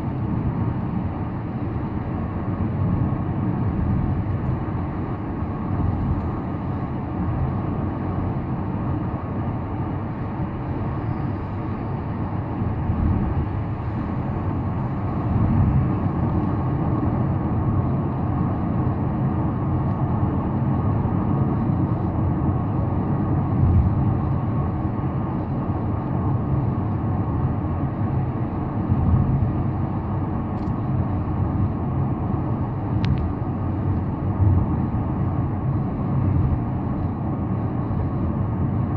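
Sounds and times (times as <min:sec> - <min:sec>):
car road noise rumble: 0:00.0 - 0:38.9.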